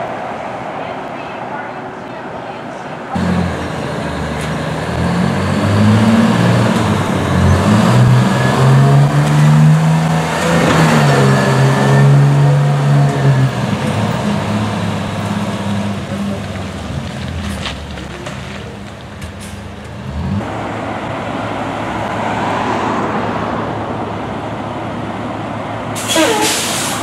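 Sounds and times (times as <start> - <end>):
truck engine revving: 3.2 - 27.0.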